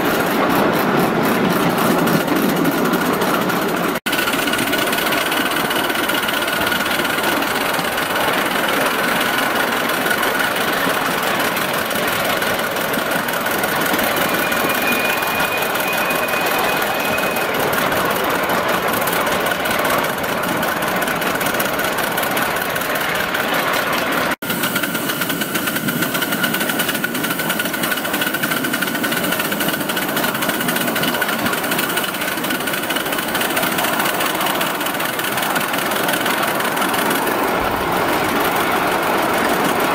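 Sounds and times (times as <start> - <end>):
steam locomotive chuffing: 0.0 - 39.9
wheels running on rails: 0.0 - 39.9.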